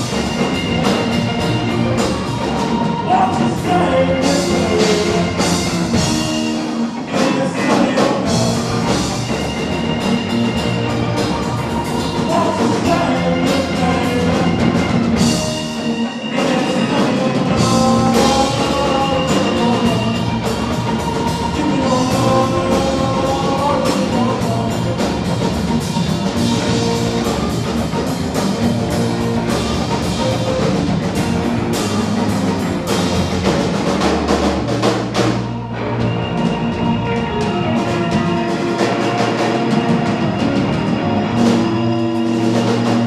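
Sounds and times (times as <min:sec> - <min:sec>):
drum kit beat: 0:00.0 - 0:43.0
live rock band playing: 0:00.0 - 0:43.0.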